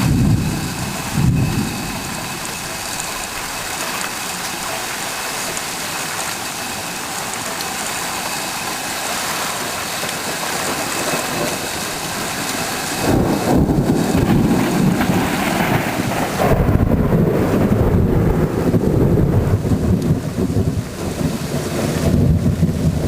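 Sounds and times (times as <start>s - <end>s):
rain hissing: 0.0s - 23.0s
thunder rumbling: 0.0s - 23.0s.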